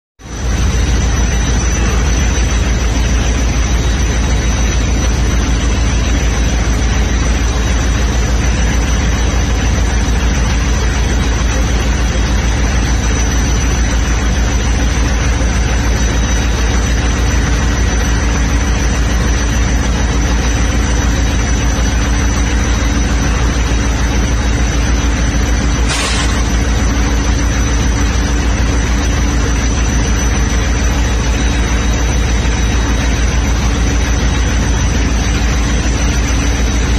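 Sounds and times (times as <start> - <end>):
diesel locomotive idling: 0.2 - 36.9
thin high whine: 0.2 - 36.9.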